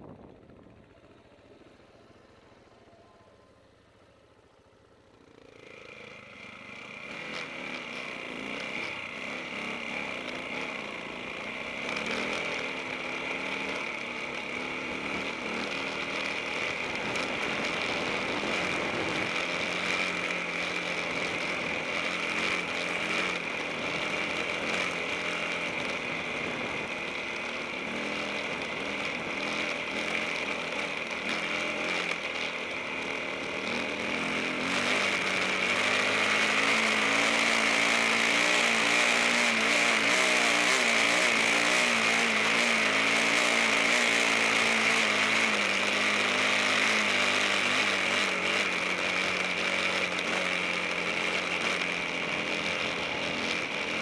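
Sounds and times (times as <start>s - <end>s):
motorcycle engine revving: 3.6s - 54.0s.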